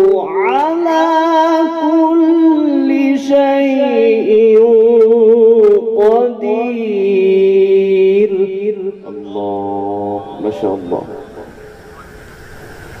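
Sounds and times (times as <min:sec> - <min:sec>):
man reciting melodically: 0:00.0 - 0:11.6.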